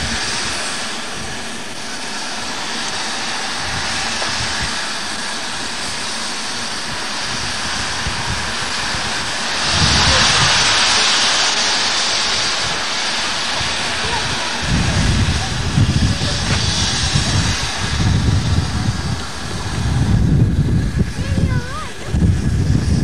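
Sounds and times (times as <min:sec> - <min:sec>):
low rumble: 0:00.0 - 0:23.0
steam locomotive hissing steam: 0:00.0 - 0:23.0.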